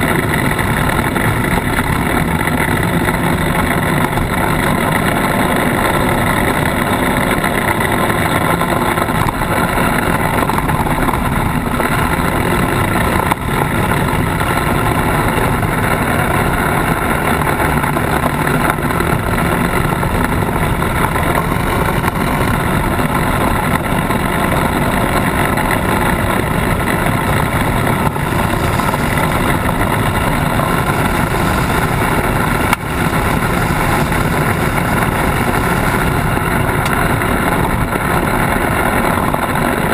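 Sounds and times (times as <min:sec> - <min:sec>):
tyres rolling on gravel: 0:00.0 - 0:39.9
vehicle engine running: 0:00.0 - 0:39.9.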